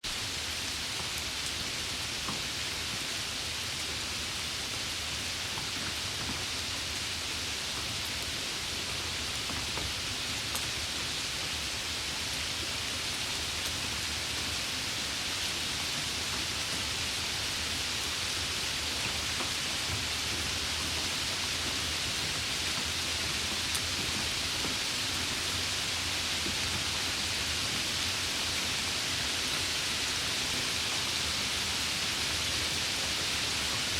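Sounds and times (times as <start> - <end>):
light rain falling: 0.0 - 33.9.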